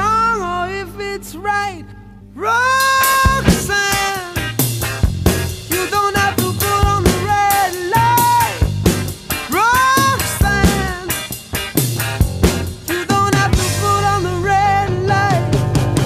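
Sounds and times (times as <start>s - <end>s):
upbeat band music: 2.8s - 16.0s.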